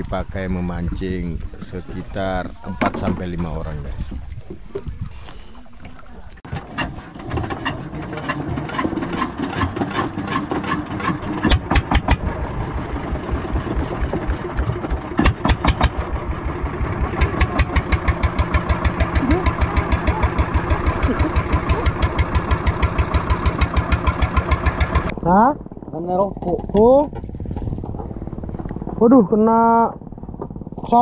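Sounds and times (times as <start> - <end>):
boat inboard engine beating: 0.0 - 31.0.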